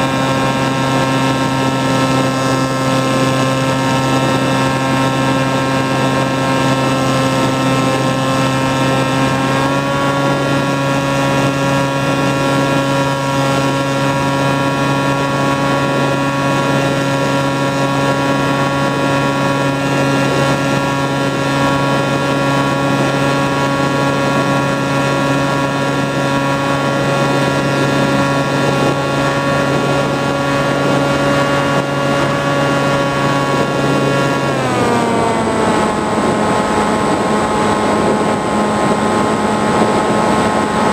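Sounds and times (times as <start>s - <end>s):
model plane motor whine: 0.0s - 40.9s.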